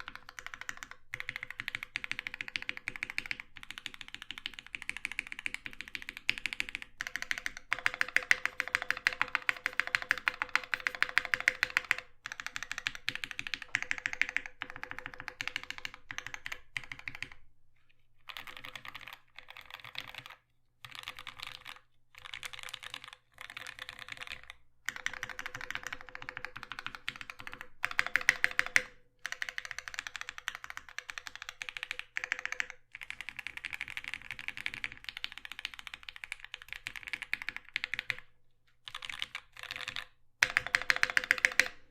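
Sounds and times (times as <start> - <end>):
mechanical keyboard typing clacks: 0.0 - 17.4, 18.3 - 38.3, 38.9 - 41.9.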